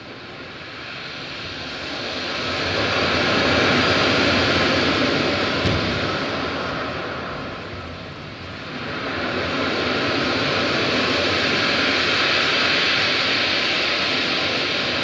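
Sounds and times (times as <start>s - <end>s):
broad rushing noise: 0.0s - 15.0s.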